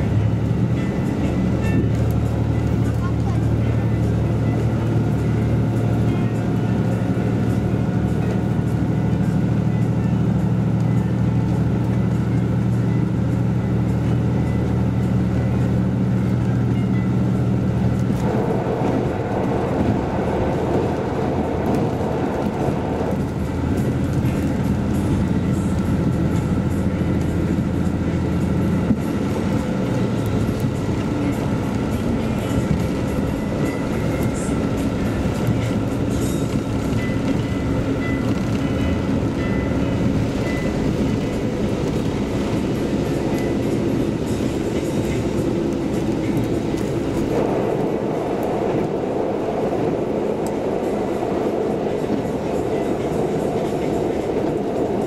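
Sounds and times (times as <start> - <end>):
mid-pitched rumble: 0.0 - 55.0
train engine drone: 0.0 - 55.0
train wheel and rail noise: 0.0 - 55.0.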